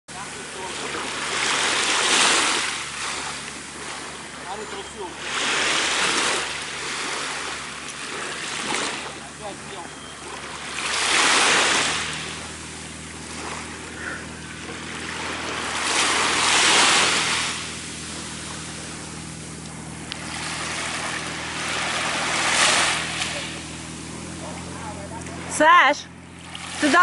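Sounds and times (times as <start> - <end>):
waves washing on sandy beach: 0.1 - 27.0.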